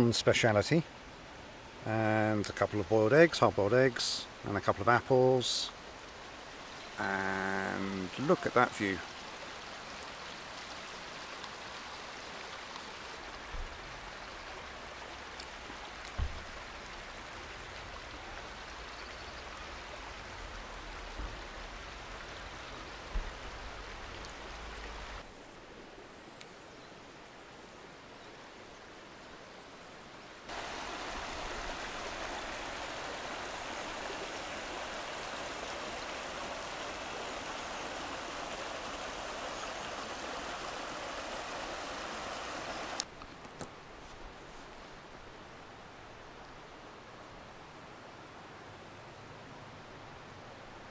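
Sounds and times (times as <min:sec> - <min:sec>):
flowing water rushing: 0:00.0 - 0:26.2, 0:27.1 - 0:48.6.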